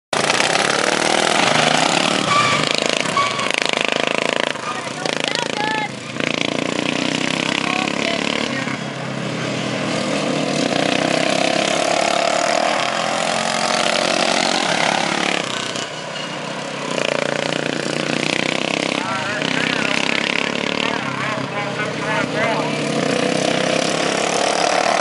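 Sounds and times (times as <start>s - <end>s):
lawn mower engines racing: 0.1s - 25.0s.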